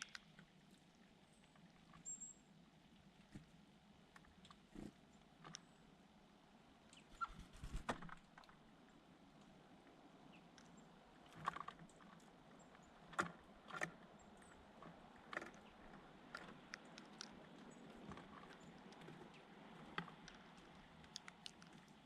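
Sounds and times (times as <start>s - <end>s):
small birds pecking and scuffling: 0.0s - 5.9s, 6.9s - 9.6s, 10.2s - 22.0s.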